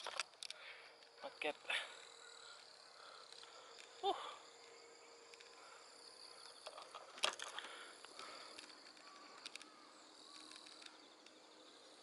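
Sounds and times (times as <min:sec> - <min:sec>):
insects calling: 0:00.0 - 0:12.0.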